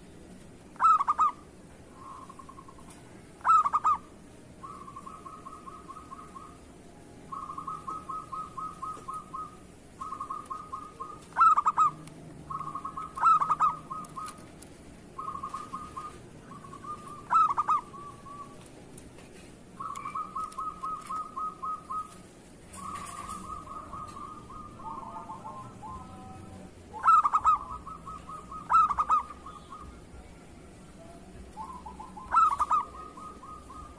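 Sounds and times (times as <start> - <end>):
dove cooing trills: 0.7 - 18.8, 19.6 - 33.9.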